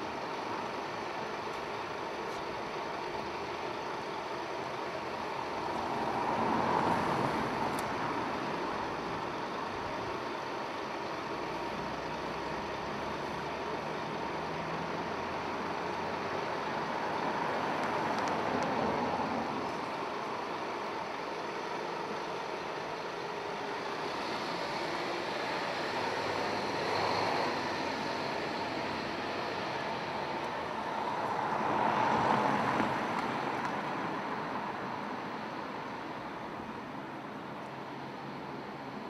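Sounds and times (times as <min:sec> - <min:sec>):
bus pulling away: 0:00.0 - 0:39.0
street traffic: 0:00.0 - 0:39.0.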